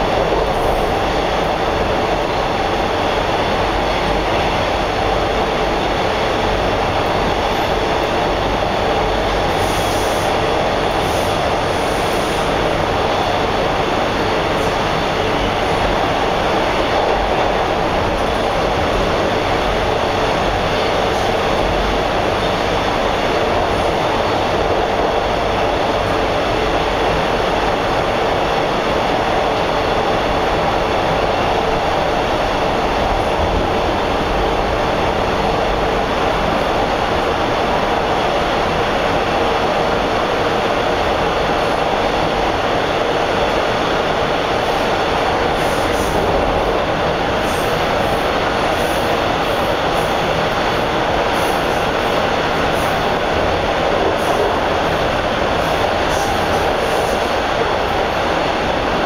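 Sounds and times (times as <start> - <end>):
subway car running noise: 0.0 - 59.0.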